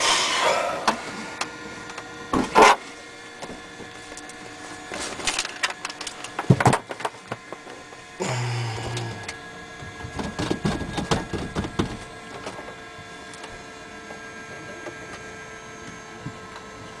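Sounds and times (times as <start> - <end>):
faint steady hum: 0.0 - 17.0
low buzz: 0.0 - 17.0.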